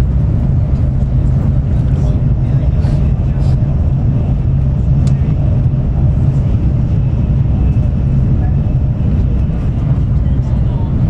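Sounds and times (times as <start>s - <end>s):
train running rumble inside cabin: 0.0s - 11.0s.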